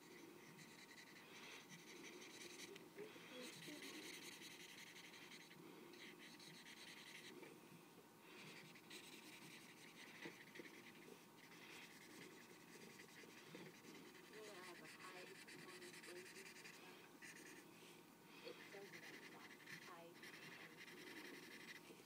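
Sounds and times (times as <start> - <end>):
highlighter scratching on paper: 0.0 - 2.8, 3.4 - 7.3, 8.4 - 17.6, 18.5 - 22.0.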